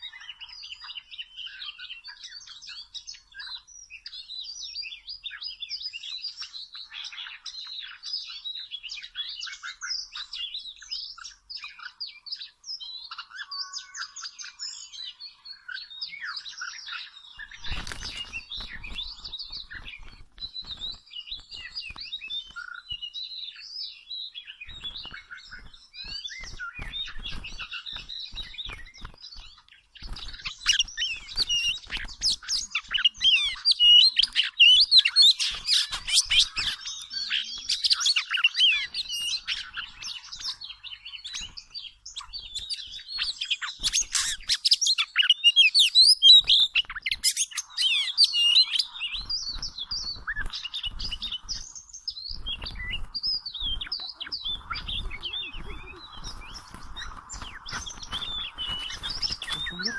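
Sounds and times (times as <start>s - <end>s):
birds chirping and chattering: 0.0s - 59.9s.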